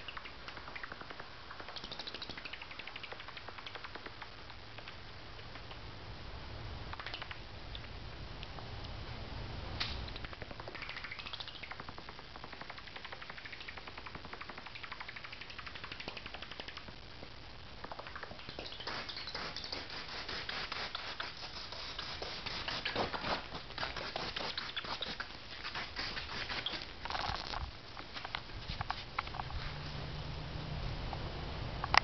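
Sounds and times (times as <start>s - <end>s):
bat clicking and squeaking: 0.0s - 5.8s, 6.9s - 8.0s, 9.8s - 17.0s, 17.8s - 29.6s.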